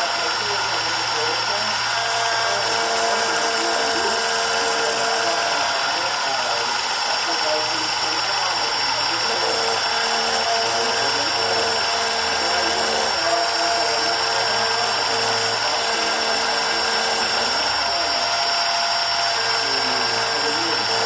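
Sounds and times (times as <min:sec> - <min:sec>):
motor tones changing pitch: 0:00.0 - 0:21.0
spindle whine: 0:00.0 - 0:21.0.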